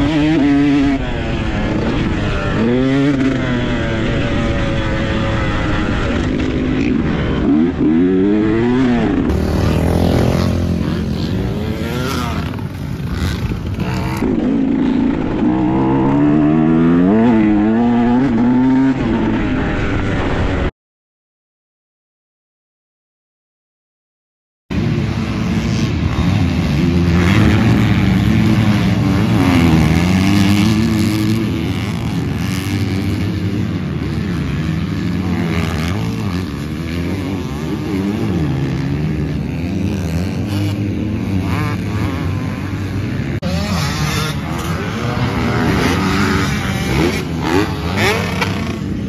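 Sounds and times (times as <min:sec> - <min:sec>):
dirt bike engines revving: 0:00.0 - 0:20.7, 0:24.7 - 0:49.0.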